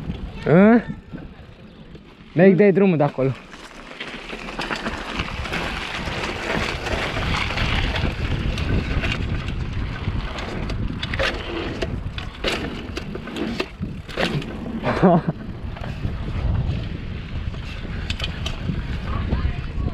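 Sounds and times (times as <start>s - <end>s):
wind buffeting microphone: 0.0s - 2.4s, 4.0s - 19.9s
bicycle knocks and rattles: 1.1s - 19.0s.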